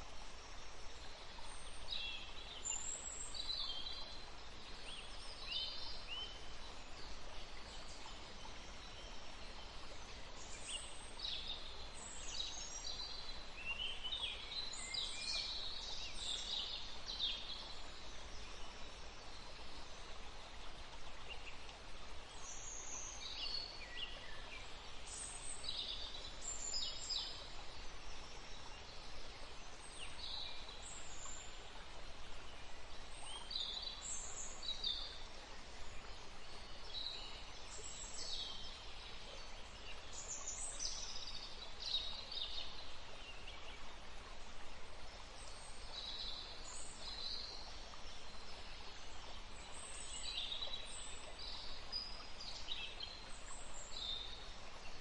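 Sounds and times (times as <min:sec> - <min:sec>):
songbirds chirping: 0:00.0 - 0:55.0
stream flowing: 0:00.0 - 0:55.0.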